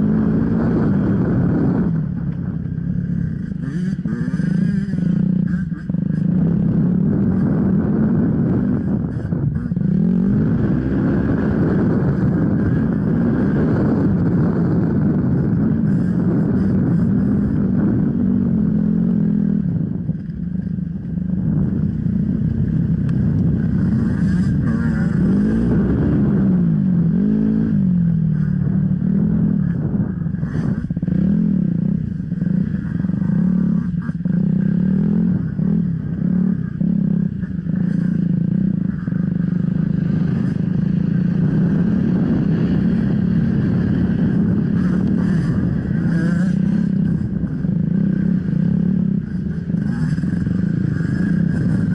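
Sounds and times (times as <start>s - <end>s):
off-road motorcycle engine revving: 0.0s - 51.9s.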